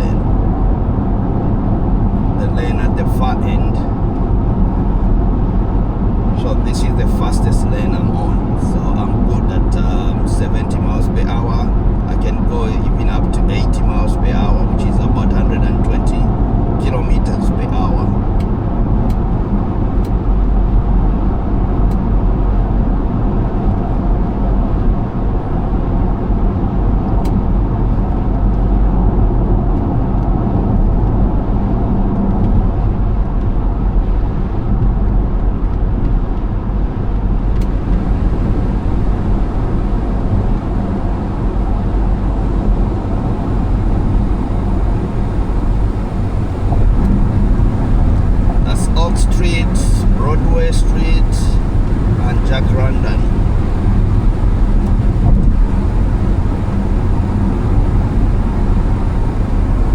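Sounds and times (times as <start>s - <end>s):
car cabin road and wind roar: 0.0s - 59.9s
faint engine drone: 0.0s - 59.9s.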